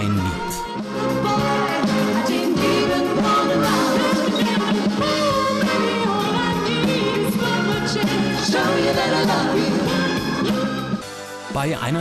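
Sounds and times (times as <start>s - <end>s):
women singing: 0.8s - 11.0s.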